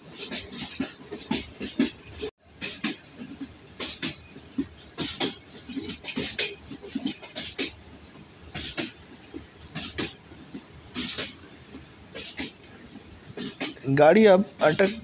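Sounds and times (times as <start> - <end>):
train wheels clacking over rail joints: 0.0 - 15.0.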